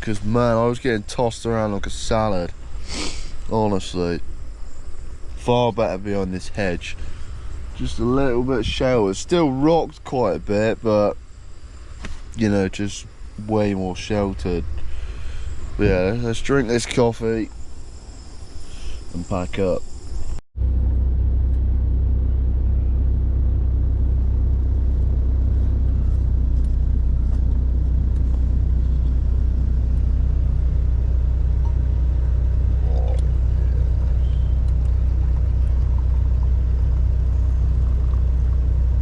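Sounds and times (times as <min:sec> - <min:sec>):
engine running low rumble: 0:00.0 - 0:39.0.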